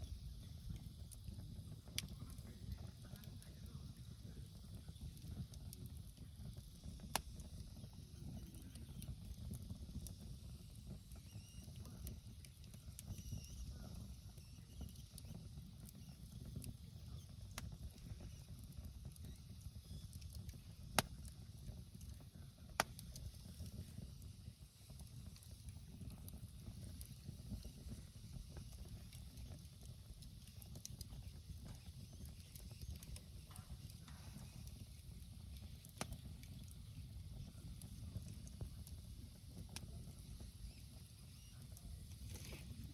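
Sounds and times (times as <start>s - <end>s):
campfire crackling: 0.0s - 42.9s
campfire sharp pops: 0.7s - 3.4s, 4.4s - 42.9s.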